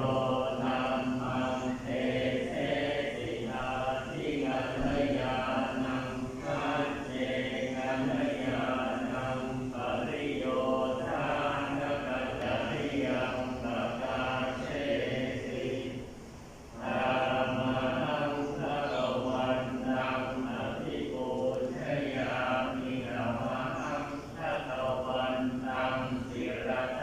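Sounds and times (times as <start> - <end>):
monks chanting in unison: 0.0 - 27.0.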